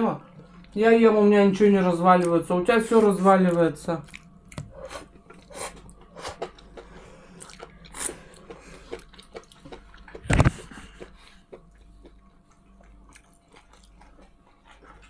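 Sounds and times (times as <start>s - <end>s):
people chewing food: 0.2s - 0.9s, 1.6s - 15.0s.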